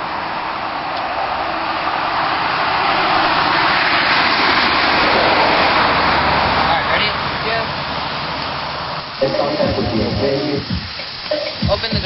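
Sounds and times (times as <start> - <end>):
vehicle road noise hiss: 0.0 - 12.0.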